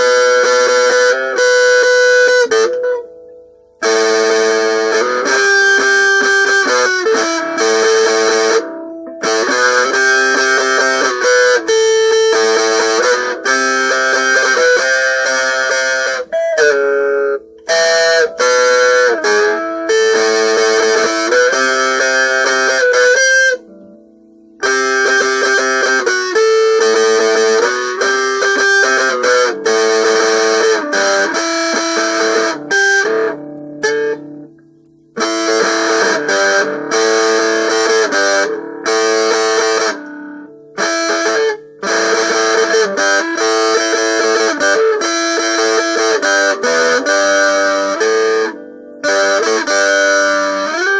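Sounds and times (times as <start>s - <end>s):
solo guitar playing: 0.0s - 50.9s.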